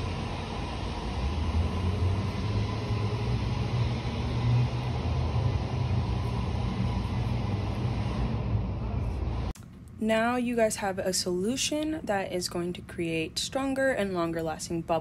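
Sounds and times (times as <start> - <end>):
low outdoor rumble: 0.0 - 13.3.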